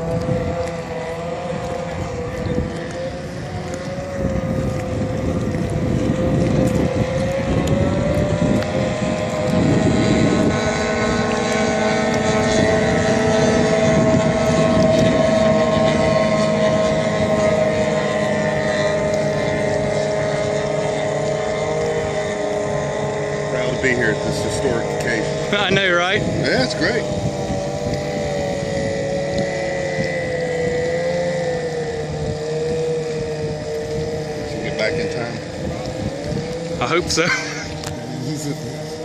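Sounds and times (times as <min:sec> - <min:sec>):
racing boat engine whine: 0:00.0 - 0:39.0.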